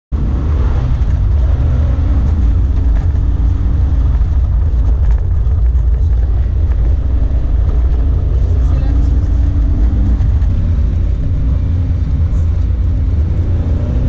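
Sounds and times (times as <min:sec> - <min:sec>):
car engine droning: 0:00.1 - 0:14.0.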